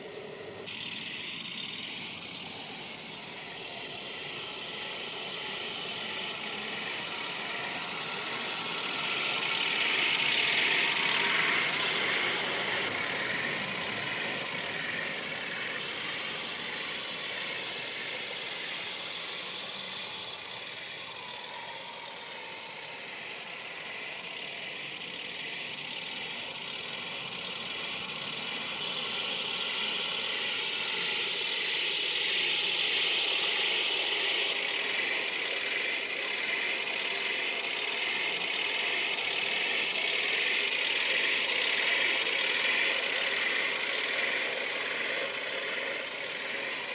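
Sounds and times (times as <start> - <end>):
model tank mechanical whine: 0.0 - 46.9.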